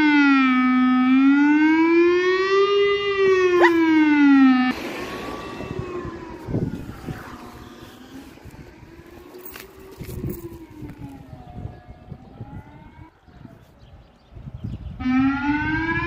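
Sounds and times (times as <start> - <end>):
civil defence siren wailing: 0.0 - 16.0.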